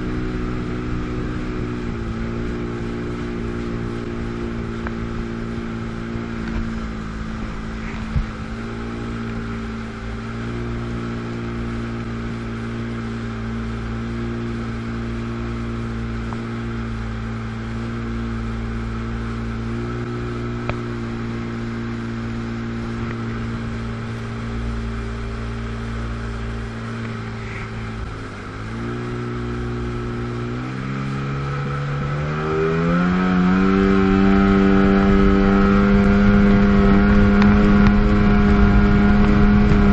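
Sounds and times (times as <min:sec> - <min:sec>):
jet ski engine accelerating: 0:00.0 - 0:39.9.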